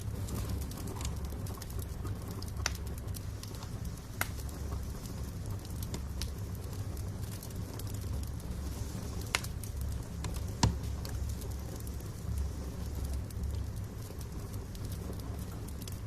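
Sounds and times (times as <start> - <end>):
burning logs popping: 0.0 - 16.0
fire crackling: 0.0 - 16.0
low rumble of flames: 0.0 - 16.0.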